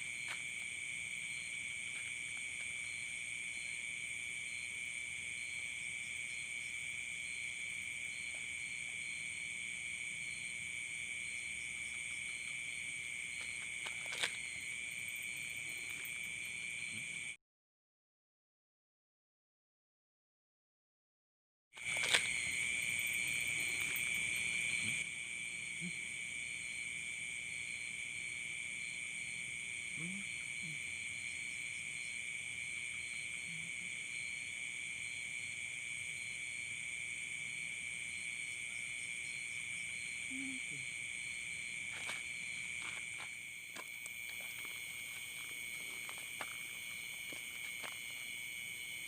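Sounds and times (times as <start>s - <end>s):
crickets trilling: 0.0s - 17.4s, 21.8s - 49.0s.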